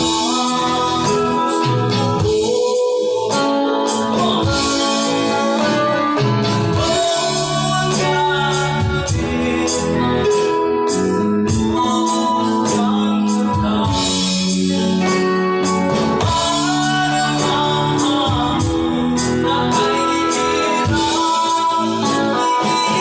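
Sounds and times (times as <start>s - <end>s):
electric bass: 0.0s - 23.0s
electric guitar: 0.0s - 23.0s
keyboard: 0.0s - 23.0s
man singing: 0.0s - 23.0s.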